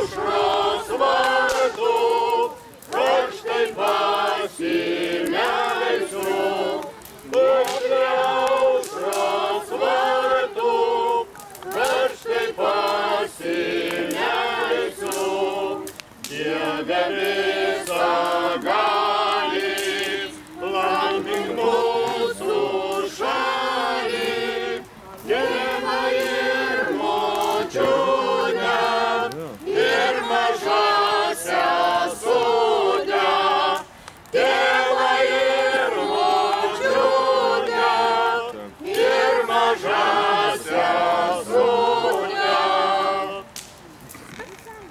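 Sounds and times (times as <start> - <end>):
group singing unaccompanied: 0.0 - 43.6.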